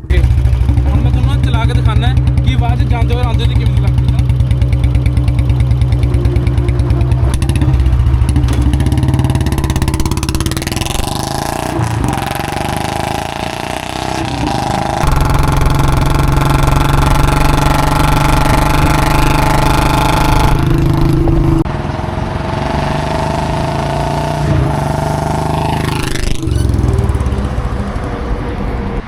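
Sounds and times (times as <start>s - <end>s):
motorcycle engine running loudly: 0.0s - 28.4s.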